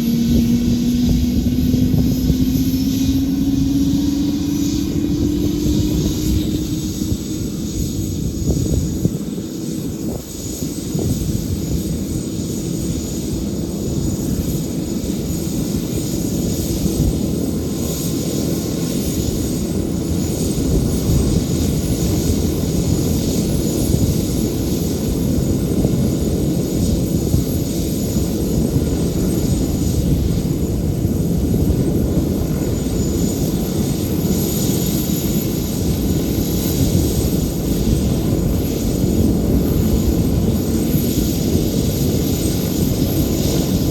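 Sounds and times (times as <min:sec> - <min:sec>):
helicopter turbine engines running: 0:00.0 - 0:43.9.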